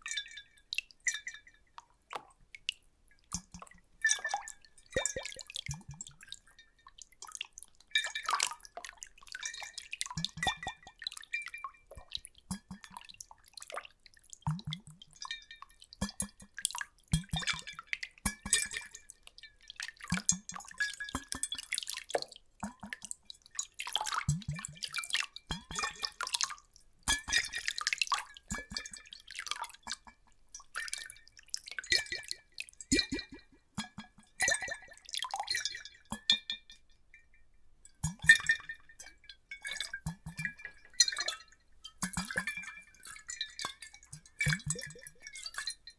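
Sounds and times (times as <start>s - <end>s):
water splashing and dripping: 0.1s - 36.6s, 38.0s - 45.8s.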